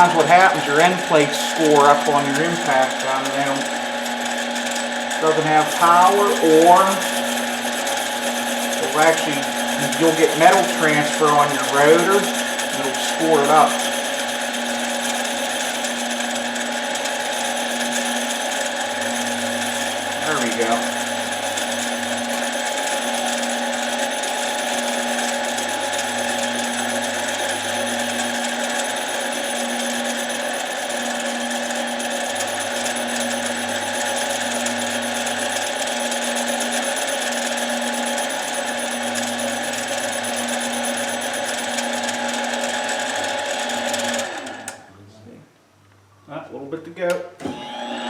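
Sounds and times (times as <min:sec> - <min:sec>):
lathe facing steel: 0:00.0 - 0:44.8.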